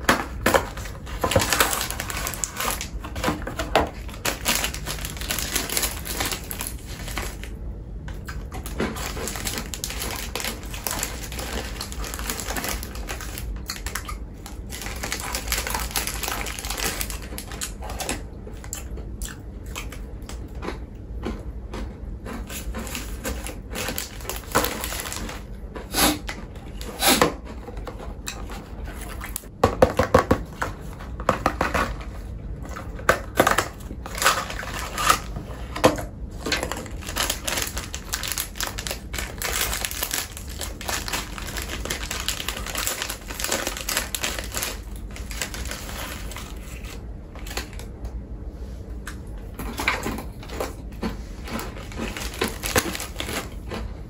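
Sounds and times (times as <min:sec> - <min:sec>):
crunching snack food: 0:00.2 - 0:27.8, 0:36.4 - 0:47.9, 0:49.6 - 0:54.0.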